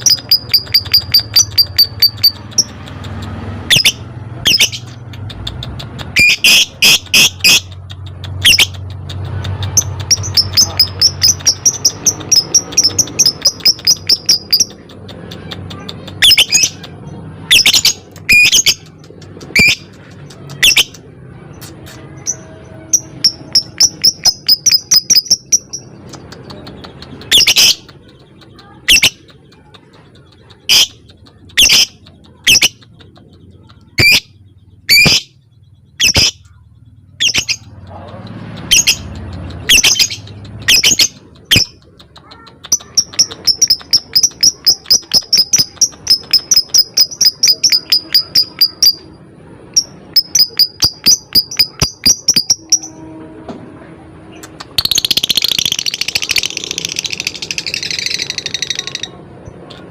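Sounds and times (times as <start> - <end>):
lovebird ticking chirps: 0.0 - 21.0, 21.6 - 52.9.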